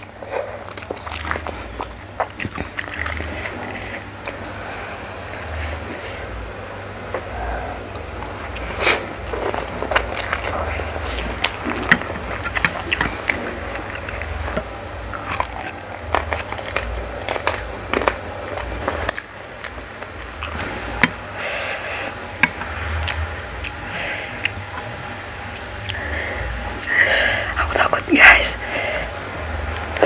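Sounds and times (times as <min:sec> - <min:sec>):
chewing noodles: 0:00.0 - 0:06.3, 0:07.1 - 0:24.9, 0:25.5 - 0:26.1.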